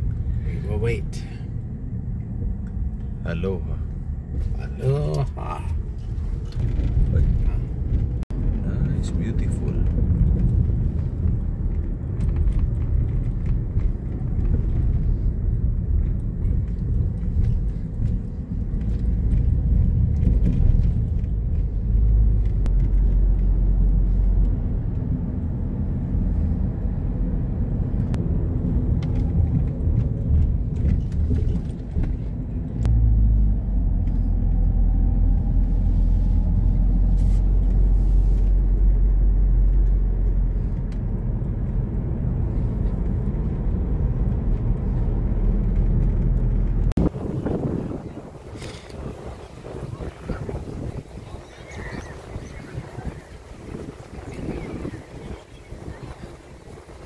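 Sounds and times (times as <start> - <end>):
car driving heard from inside: 0.0 - 57.0.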